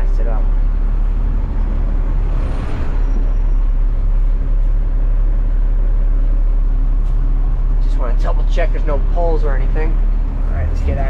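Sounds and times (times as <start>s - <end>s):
garbage truck engine rumbling: 0.0s - 11.0s.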